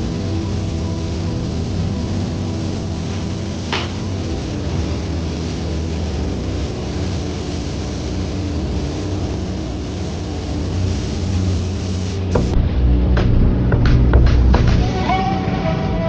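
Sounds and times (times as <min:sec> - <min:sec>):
engine running: 0:00.0 - 0:15.2.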